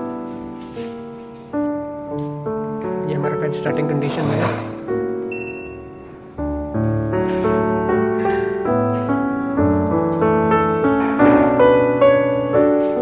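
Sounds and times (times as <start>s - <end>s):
piano melody over chords: 0.0s - 13.0s.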